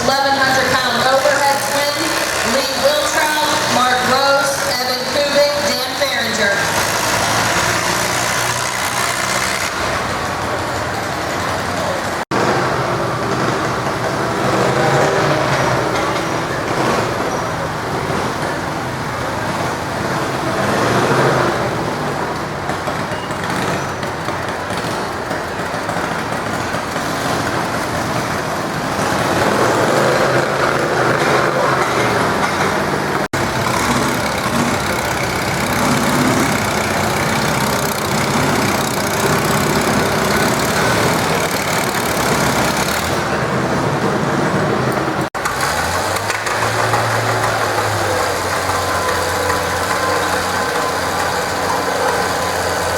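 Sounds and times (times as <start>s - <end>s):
tractor engine running hard: 0.0s - 52.9s.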